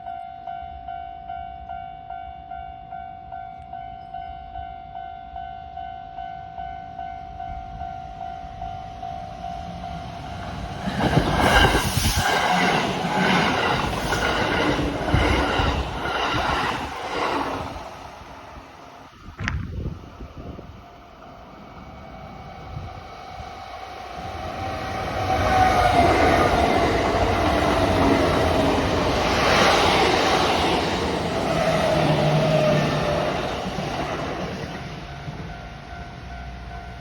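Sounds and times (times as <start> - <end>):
electric train passing: 0.9 - 37.0.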